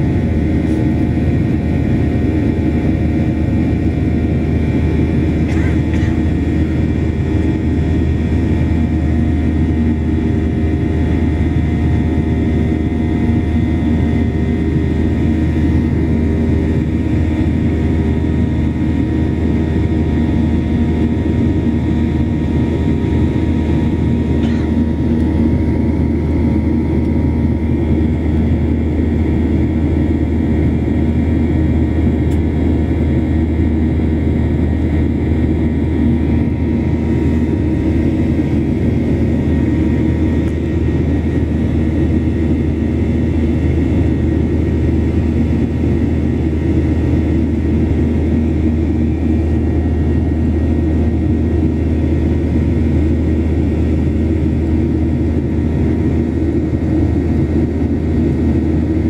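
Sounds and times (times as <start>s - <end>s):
airliner cabin engine drone: 0.0s - 59.0s.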